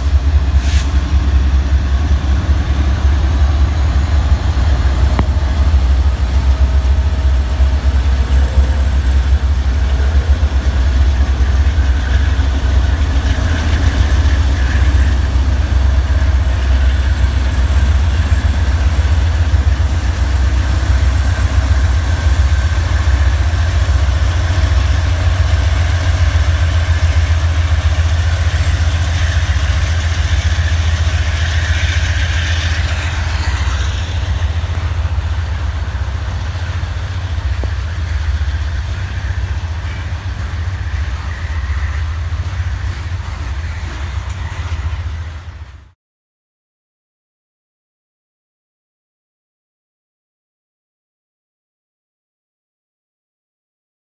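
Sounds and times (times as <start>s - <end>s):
locomotives idling: 0.0s - 45.9s.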